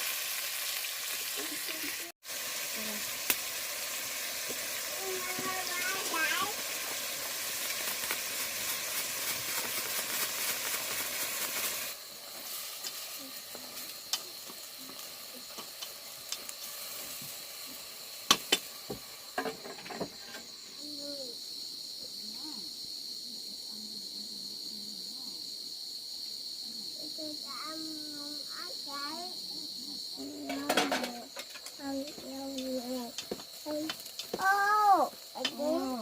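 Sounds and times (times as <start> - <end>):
food sizzling in a pan: 0.0 - 23.2, 25.4 - 36.0
cricket trill: 0.0 - 36.0.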